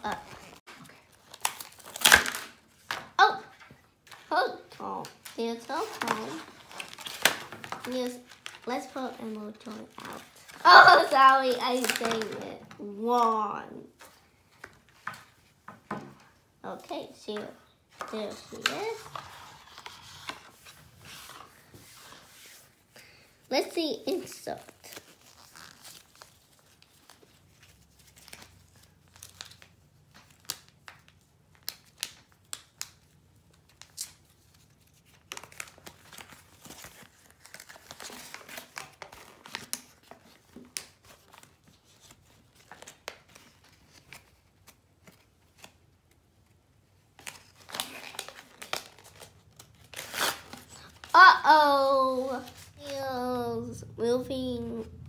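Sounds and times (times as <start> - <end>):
paper crinkling and rustling: 0.0 - 13.3, 17.9 - 22.9, 24.2 - 53.3.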